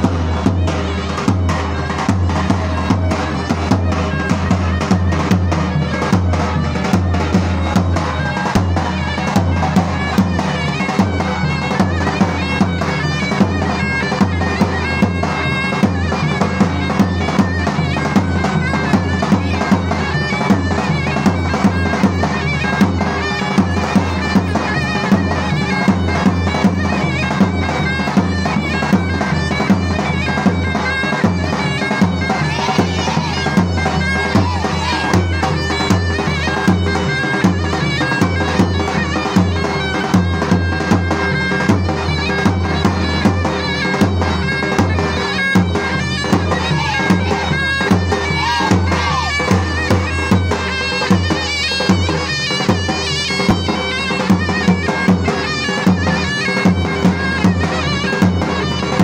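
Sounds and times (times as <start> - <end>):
davul drum beat: 0.0 - 59.0
reedy zurna folk tune: 0.0 - 59.0.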